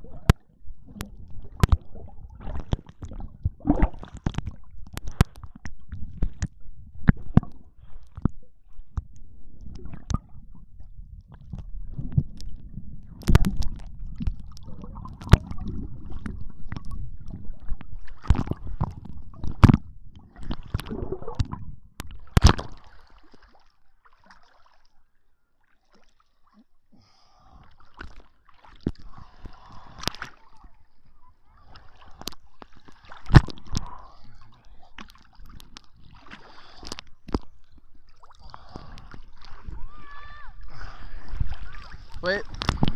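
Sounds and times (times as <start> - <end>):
water splashing: 0.0 - 9.0, 11.3 - 25.0, 27.4 - 42.9
underwater sloshing and gurgling: 0.0 - 42.9.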